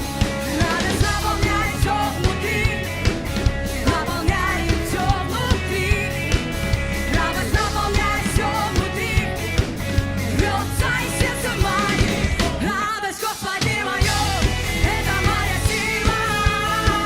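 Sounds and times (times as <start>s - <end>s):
steady drum beat: 0.0s - 17.0s
person singing: 0.3s - 17.0s.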